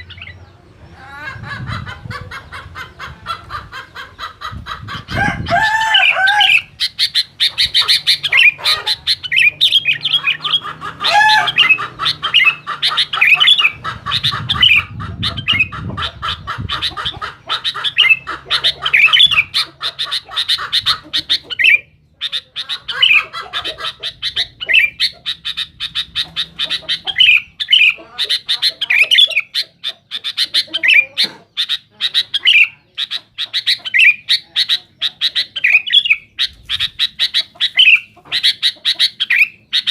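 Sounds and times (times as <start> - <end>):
bird singing and chattering: 0.0 - 39.9.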